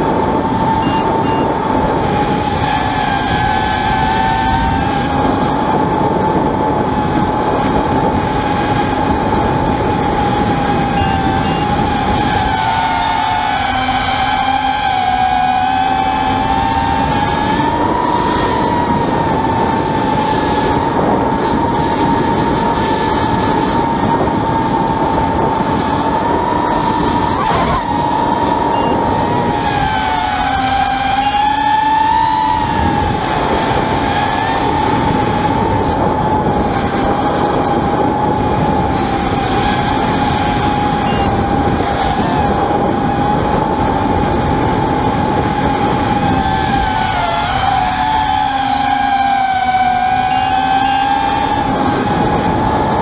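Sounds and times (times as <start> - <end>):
quadcopter motors whining: 0.0 - 53.0.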